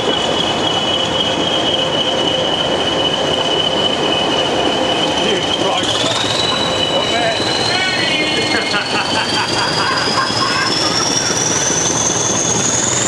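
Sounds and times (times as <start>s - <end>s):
diesel locomotive engines working: 0.0s - 13.0s
steady high whistle: 0.0s - 13.0s.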